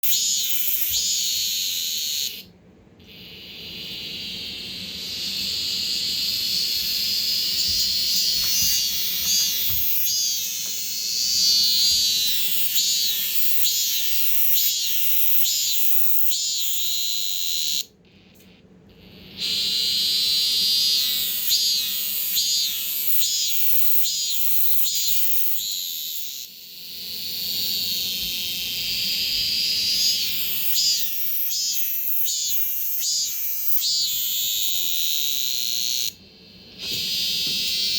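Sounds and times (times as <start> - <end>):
cicadas chorus: 0.0 - 17.9, 19.0 - 37.9.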